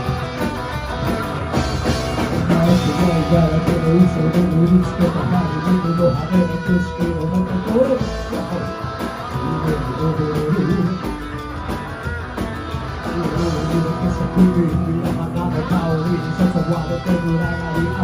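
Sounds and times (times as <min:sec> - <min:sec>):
electric guitar: 0:00.0 - 0:18.0
rock band playing: 0:00.0 - 0:18.0.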